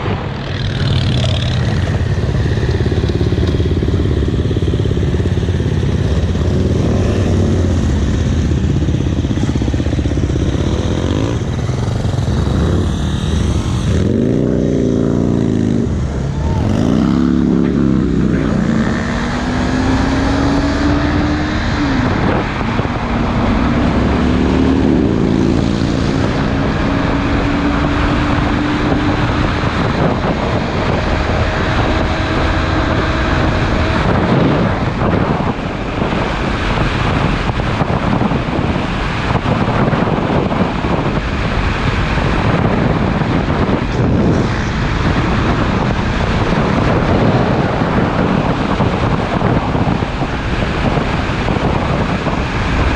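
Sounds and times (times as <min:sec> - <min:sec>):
motorcycle engine accelerating: 0:00.0 - 0:52.9
wind rushing over microphone: 0:00.0 - 0:52.9.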